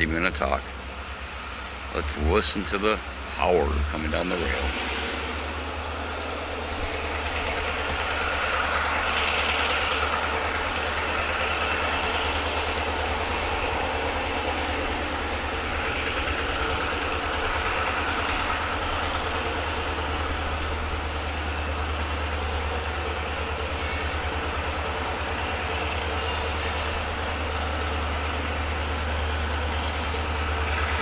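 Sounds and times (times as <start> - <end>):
diesel locomotive engine drone: 0.0 - 31.0
rail noise: 0.0 - 31.0.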